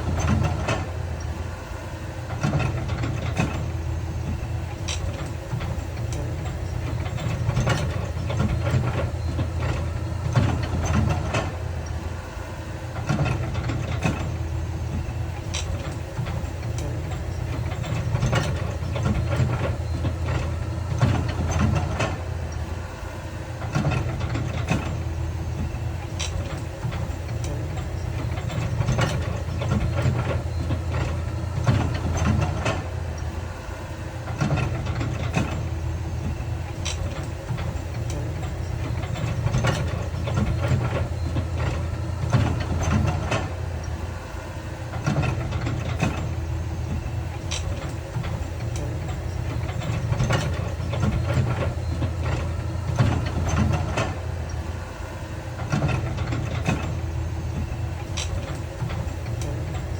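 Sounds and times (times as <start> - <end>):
diesel machinery engine hum: 0.0 - 59.9.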